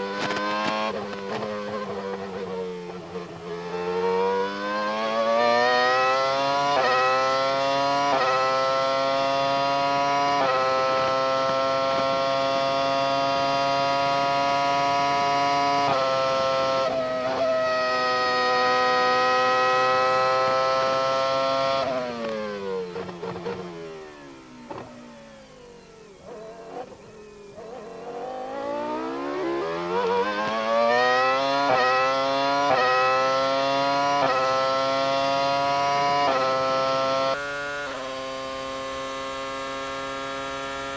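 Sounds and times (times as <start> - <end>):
racing car engine at high revs: 0.0 - 40.9.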